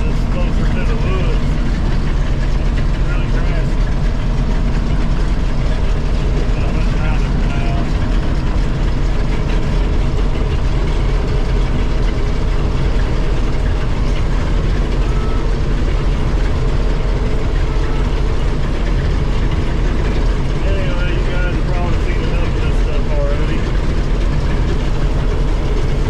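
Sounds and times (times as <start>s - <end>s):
combine harvester engine droning: 0.0s - 26.0s.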